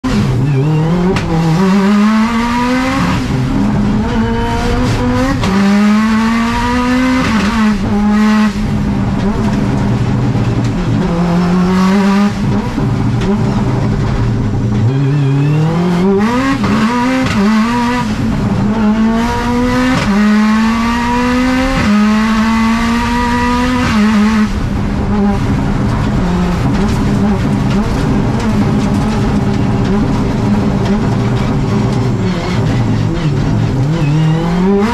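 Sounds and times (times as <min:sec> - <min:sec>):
rally car engine revving: 0:00.0 - 0:34.9.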